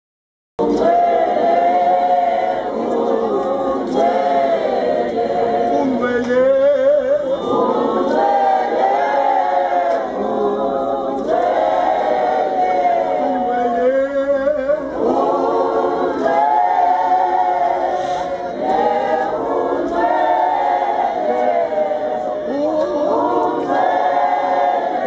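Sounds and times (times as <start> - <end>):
group singing a cappella: 0.6 - 25.0.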